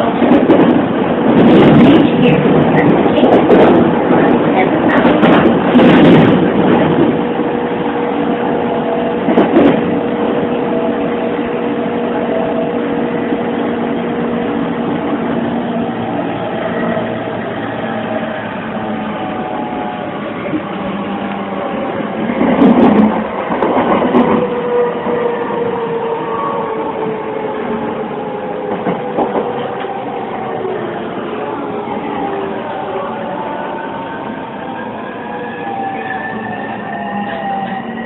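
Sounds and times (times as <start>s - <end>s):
wheel and rail noise: 0.0s - 38.0s
train inverter and motor whine: 2.4s - 38.0s.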